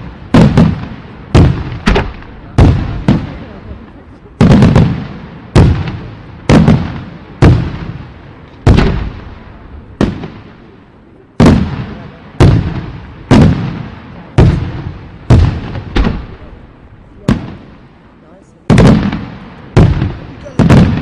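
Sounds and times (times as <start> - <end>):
fireworks booming with echo: 0.0 - 21.0.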